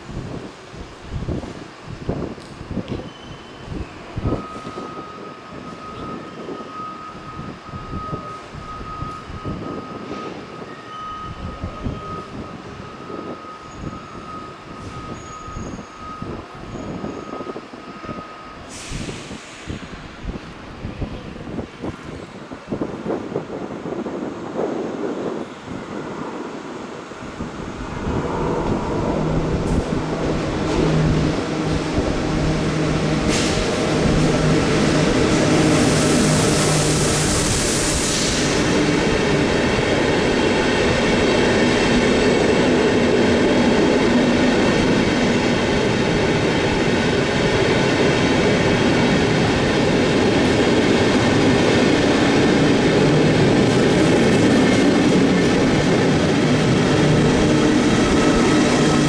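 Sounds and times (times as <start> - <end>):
electric locomotive passing: 0.0 - 59.0.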